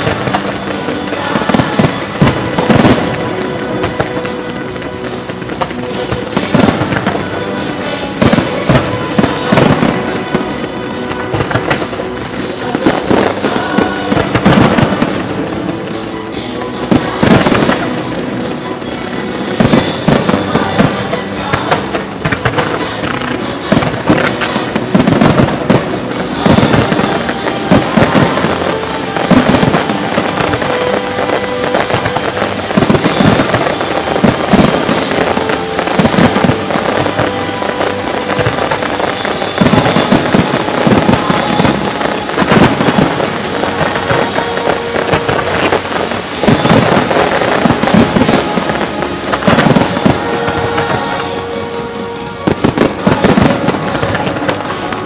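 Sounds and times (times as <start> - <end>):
fireworks booming and crackling: 0.0 - 55.0
music playing: 0.0 - 55.0.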